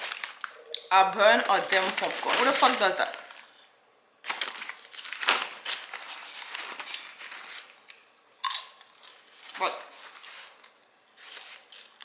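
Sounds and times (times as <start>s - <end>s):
popcorn bag rustling: 0.0s - 0.6s, 1.2s - 3.6s, 4.2s - 7.9s, 9.0s - 12.0s.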